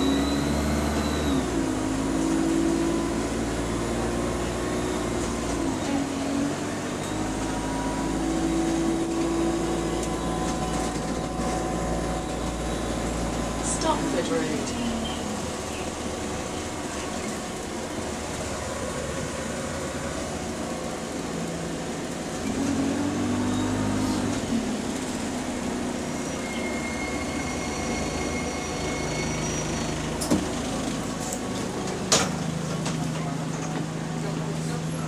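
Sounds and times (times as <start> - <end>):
bus engine and road drone: 0.0 - 35.0.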